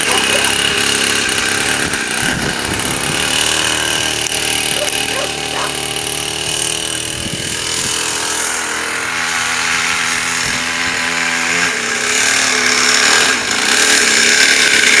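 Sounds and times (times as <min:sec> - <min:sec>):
two-stroke motorbike engine: 0:00.0 - 0:15.0.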